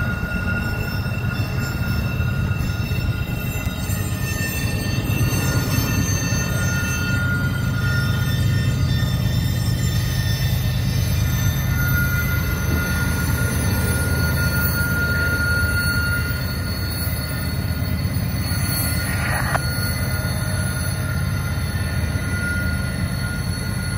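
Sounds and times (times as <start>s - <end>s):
high wheel squeals: 0.0s - 23.9s
train rumbling: 0.0s - 23.9s.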